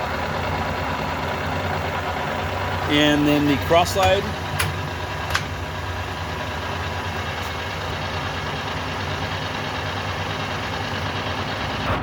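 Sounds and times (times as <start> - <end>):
lathe gearing hum: 0.0 - 11.9.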